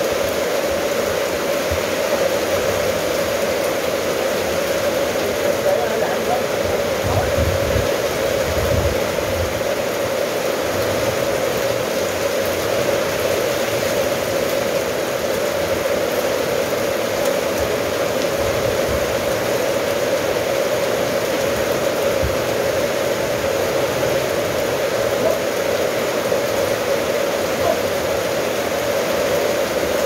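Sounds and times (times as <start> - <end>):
rain on metal roof: 0.0 - 30.0.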